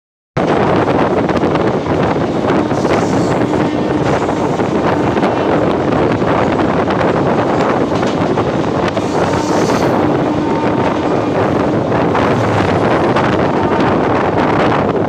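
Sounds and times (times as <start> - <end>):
goods train wagons rushing past: 0.4 - 15.0
train rumbling and clattering: 0.4 - 15.0
wind buffeting microphone: 0.4 - 15.0.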